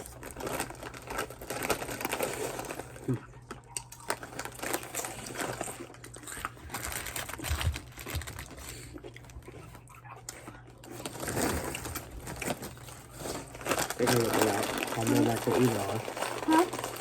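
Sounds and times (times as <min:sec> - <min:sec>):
chewing food: 0:00.0 - 0:17.0.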